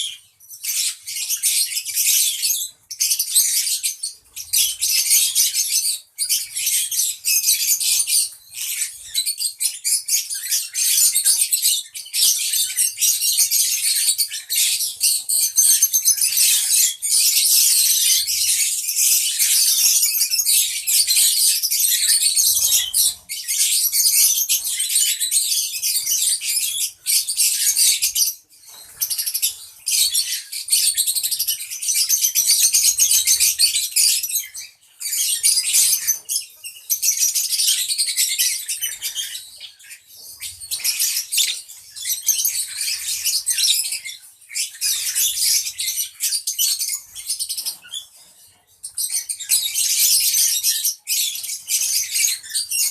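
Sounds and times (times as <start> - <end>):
lovebirds chattering shrilly: 0.0 - 52.9.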